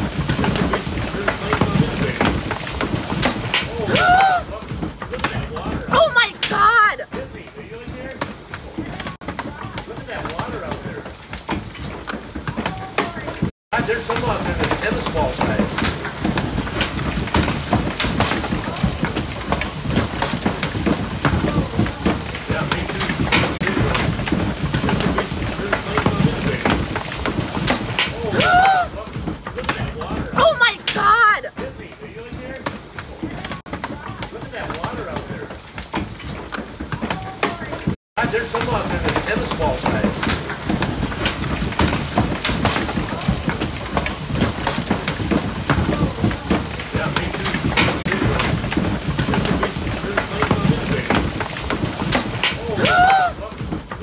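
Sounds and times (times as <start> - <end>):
hailstones knocking on surfaces: 0.0 - 54.0.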